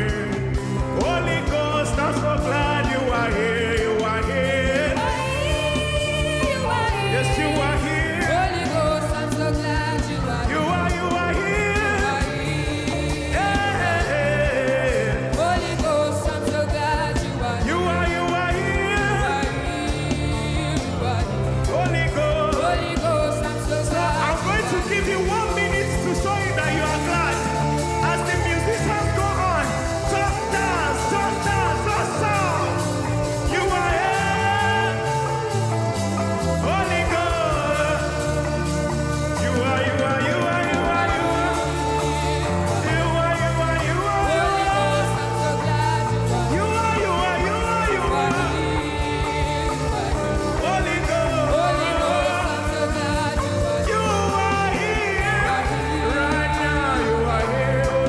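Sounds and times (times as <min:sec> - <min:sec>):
bass: 0:00.0 - 0:58.0
drums: 0:00.0 - 0:58.0
gospel worship band playing: 0:00.0 - 0:58.0
keyboard: 0:00.0 - 0:58.0
person singing: 0:00.0 - 0:58.0.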